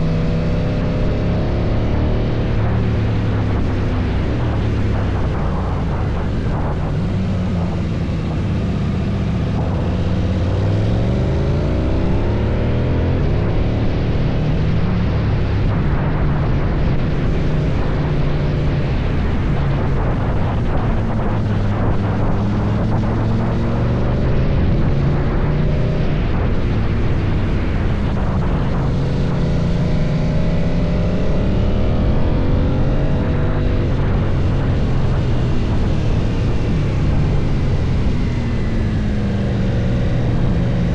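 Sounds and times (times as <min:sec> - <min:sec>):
motorcycle engine revs rising and falling: 0:00.0 - 0:40.9.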